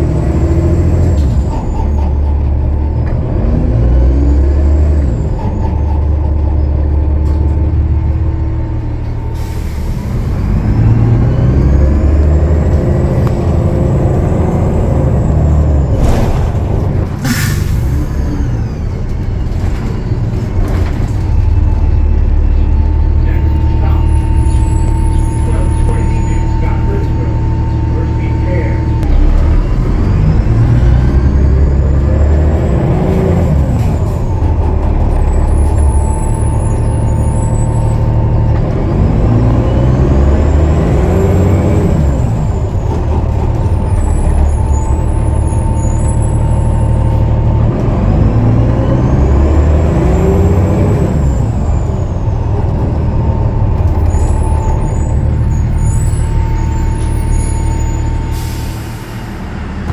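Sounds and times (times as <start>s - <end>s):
diesel bus engine pulling away: 0.0s - 59.9s.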